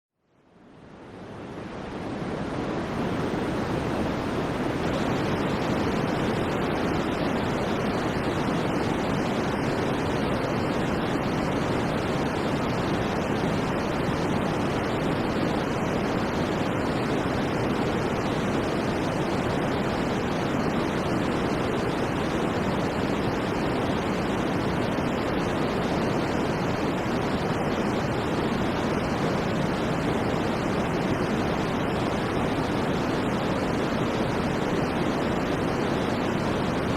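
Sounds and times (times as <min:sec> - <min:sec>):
steady white noise hiss: 0:00.2 - 0:36.9.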